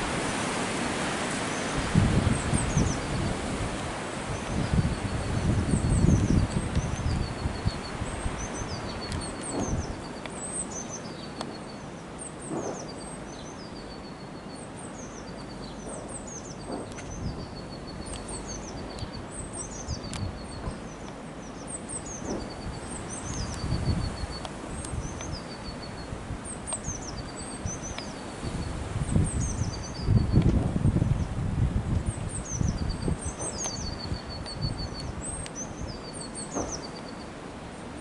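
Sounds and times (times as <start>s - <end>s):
songbirds singing: 0.0s - 38.0s.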